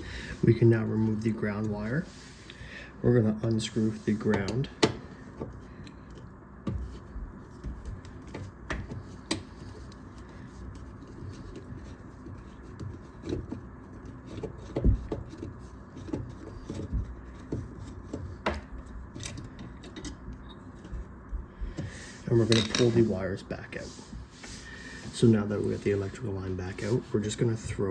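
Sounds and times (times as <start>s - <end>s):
wires being handled: 3.4s - 27.9s.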